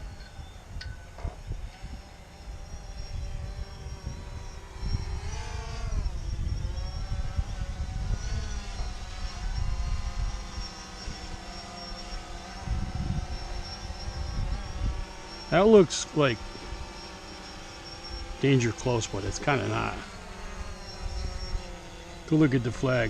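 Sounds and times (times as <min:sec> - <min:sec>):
drone propellers whining: 0:00.0 - 0:23.0
wind rumbling on microphone: 0:00.0 - 0:23.0.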